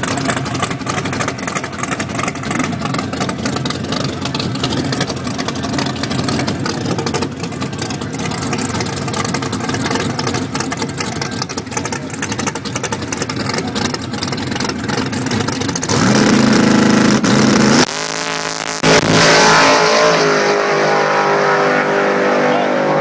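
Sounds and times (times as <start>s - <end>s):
drag car engine revving: 0.0s - 23.0s.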